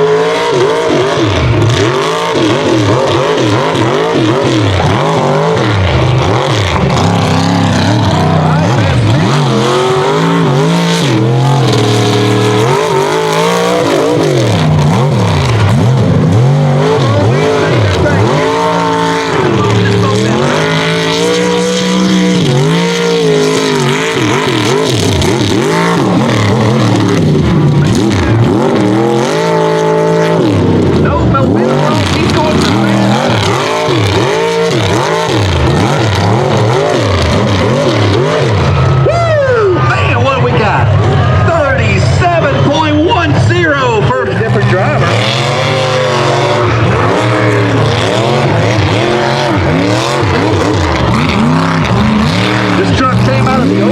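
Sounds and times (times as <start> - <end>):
truck race engine revving: 0.0 - 53.9.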